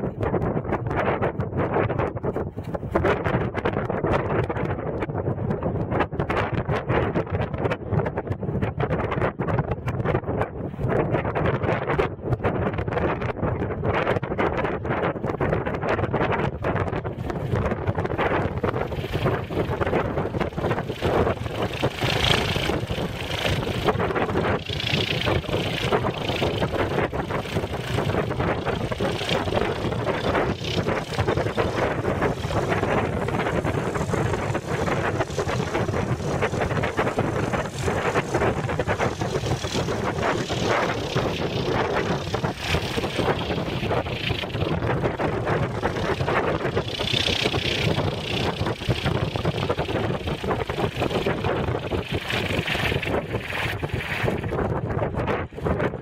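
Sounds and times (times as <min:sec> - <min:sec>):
strong wind buffeting microphone: 0:00.0 - 0:56.0.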